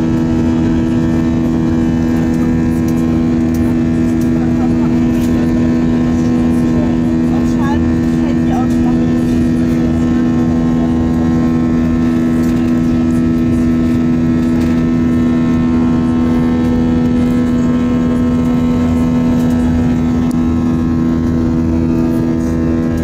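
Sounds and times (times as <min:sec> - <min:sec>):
jet engine cabin hum: 0:00.0 - 0:23.0.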